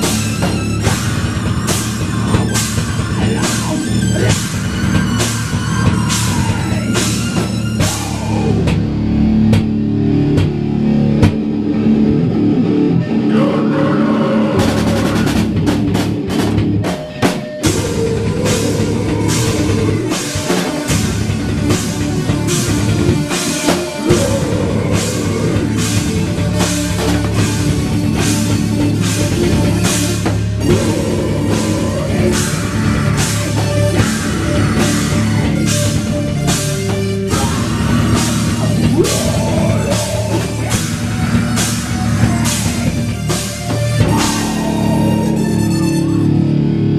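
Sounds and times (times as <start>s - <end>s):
distorted guitars: 0.0s - 46.9s
metal band playing loud: 0.0s - 46.9s
pounding drum kit: 0.0s - 46.9s.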